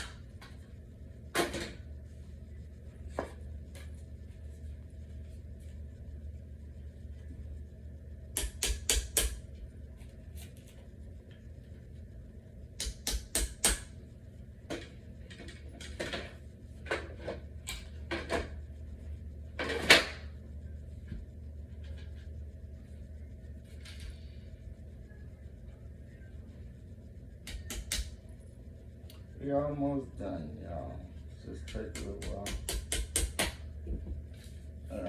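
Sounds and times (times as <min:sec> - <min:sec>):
low hum: 0:00.0 - 0:32.0, 0:33.4 - 0:35.0.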